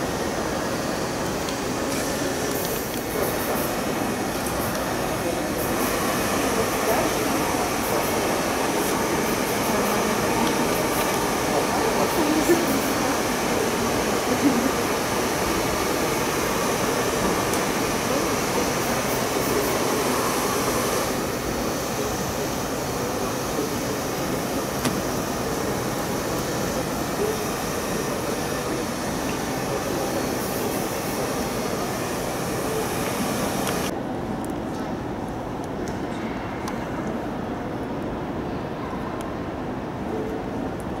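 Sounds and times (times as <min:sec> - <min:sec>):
distant murmur of voices: 0:00.0 - 0:41.0.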